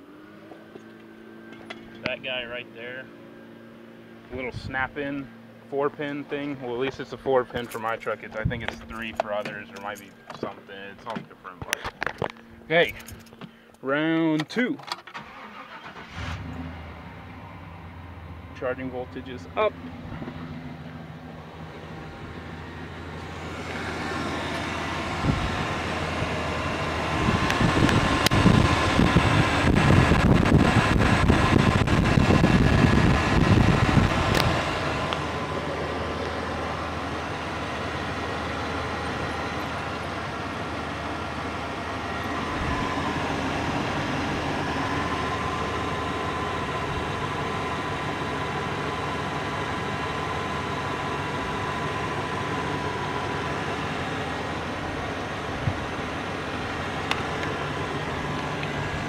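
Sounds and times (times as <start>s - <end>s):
truck engine idling: 0.8s - 14.0s, 15.2s - 59.0s.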